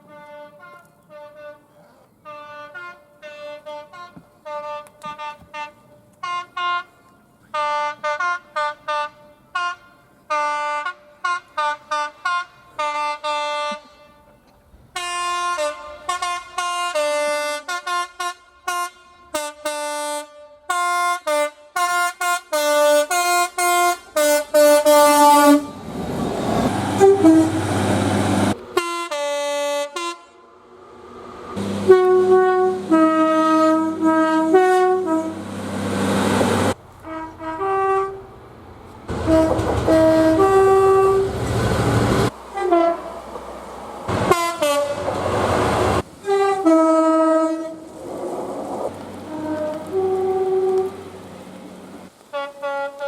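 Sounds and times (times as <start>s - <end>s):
train horn toots: 0.0s - 25.9s, 26.8s - 27.8s, 28.7s - 30.5s, 31.6s - 35.6s, 36.3s - 38.4s, 39.1s - 43.3s, 44.1s - 47.9s, 49.2s - 51.2s, 52.3s - 53.0s.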